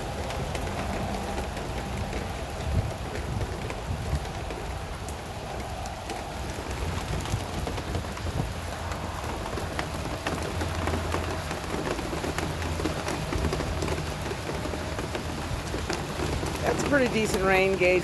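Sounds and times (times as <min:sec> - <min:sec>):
rain falling: 0:00.0 - 0:18.0
raindrops ticking: 0:00.0 - 0:18.0.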